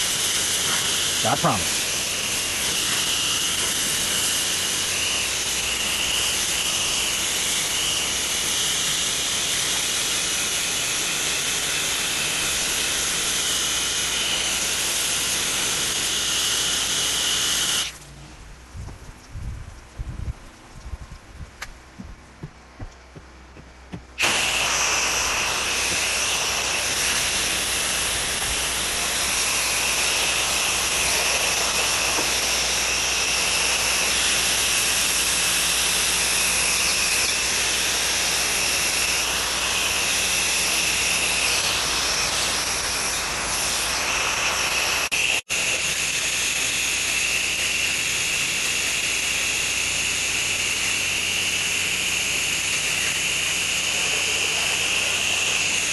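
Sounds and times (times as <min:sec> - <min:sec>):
pressure washer spraying water: 0:00.0 - 0:18.0, 0:24.0 - 0:55.9.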